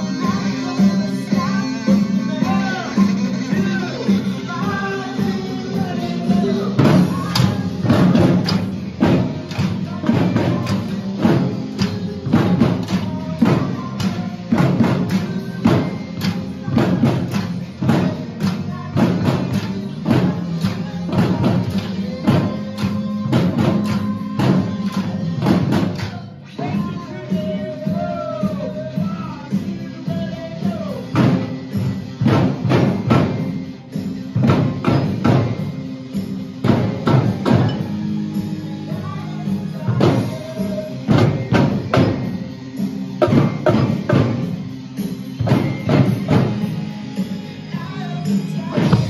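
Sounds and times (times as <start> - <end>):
drum kit beat: 0.0 - 49.0.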